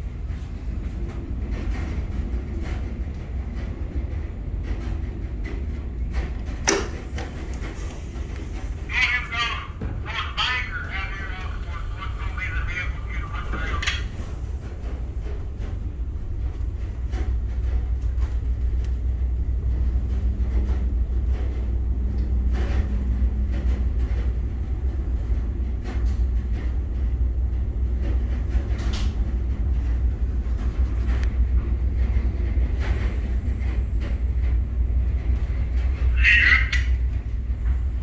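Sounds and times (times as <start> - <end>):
diesel engines droning: 5.8 - 27.4, 28.2 - 38.0.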